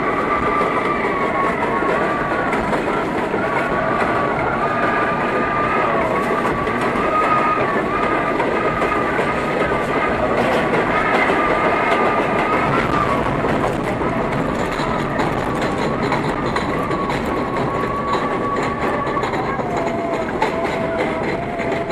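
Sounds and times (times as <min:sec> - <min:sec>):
rail-joint clicks: 0:00.0 - 0:21.9
subway train running with whine: 0:00.0 - 0:21.9.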